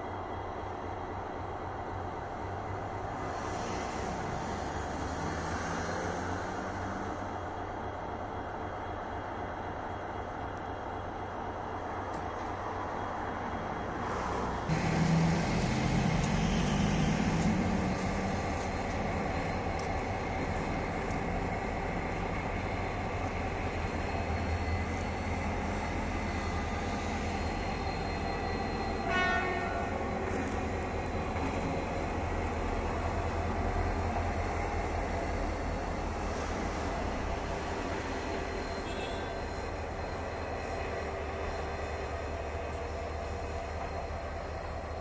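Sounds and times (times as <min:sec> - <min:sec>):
diesel locomotive engine: 0:00.0 - 0:45.0.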